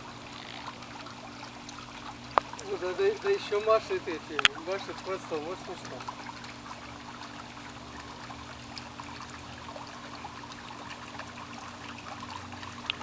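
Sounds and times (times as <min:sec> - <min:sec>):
pool water trickling and lapping: 0:00.0 - 0:13.0
water drips: 0:00.0 - 0:13.0.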